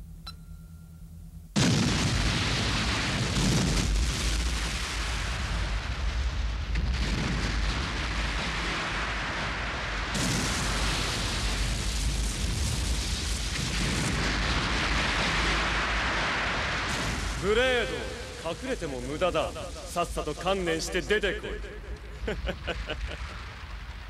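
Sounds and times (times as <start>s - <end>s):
sudden blast: 1.5s - 24.0s
cartoon explosions: 1.6s - 24.0s
heavy rumbling: 1.6s - 24.0s.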